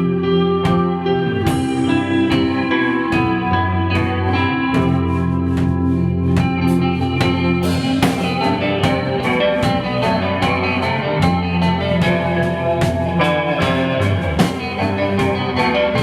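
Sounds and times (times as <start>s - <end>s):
drum kit beat: 0.0s - 16.0s
electric guitars: 0.0s - 16.0s.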